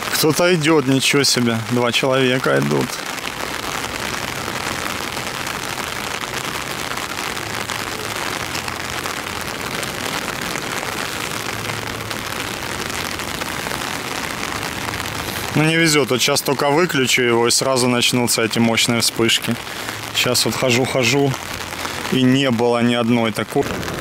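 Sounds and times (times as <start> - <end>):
heavy rain on paving: 0.0 - 24.0.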